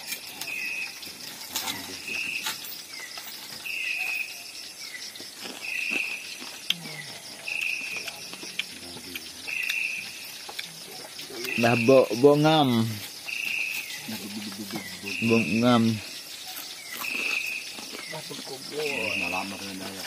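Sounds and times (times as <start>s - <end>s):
insect buzzing call: 0.0s - 20.0s
insect high pulsing trill: 0.0s - 20.0s.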